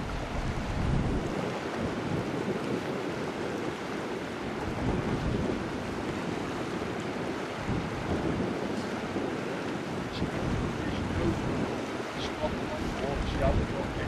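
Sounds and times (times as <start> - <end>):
choppy river water: 0.0 - 14.0
wind buffeting microphone: 0.0 - 14.0.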